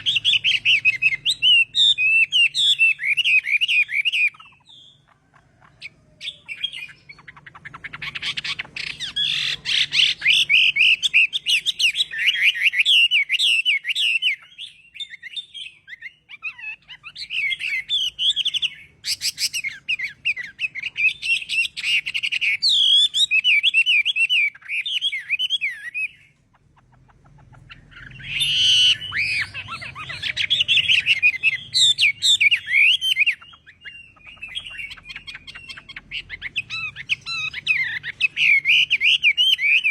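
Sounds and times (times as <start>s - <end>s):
songbird warbling: 0.0s - 39.9s.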